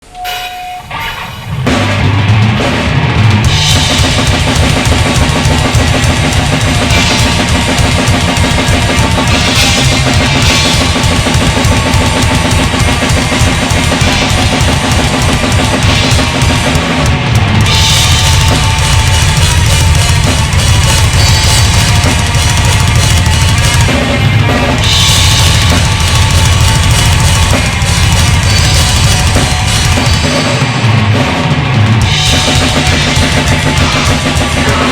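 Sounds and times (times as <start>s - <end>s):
cymbals: 0.0s - 34.9s
rock music: 0.0s - 34.9s
pounding bass drum: 1.5s - 34.9s.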